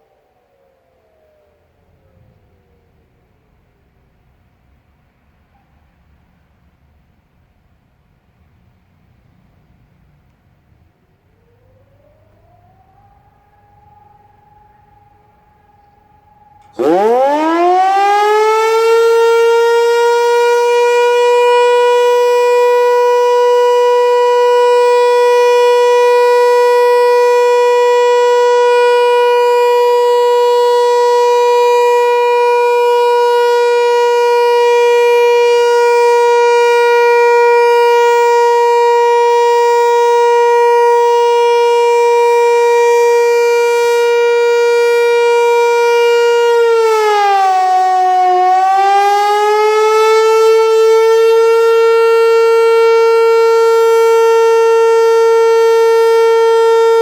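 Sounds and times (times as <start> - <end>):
siren steady tone: 0.0 - 4.0, 11.2 - 57.0.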